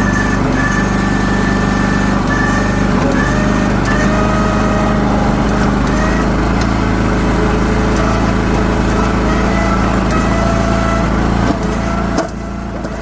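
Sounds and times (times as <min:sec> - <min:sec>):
backhoe engine running: 0:00.0 - 0:13.0.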